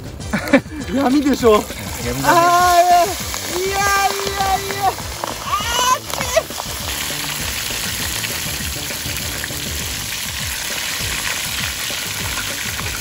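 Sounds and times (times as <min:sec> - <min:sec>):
oil sizzling and crackling: 0:00.0 - 0:13.0.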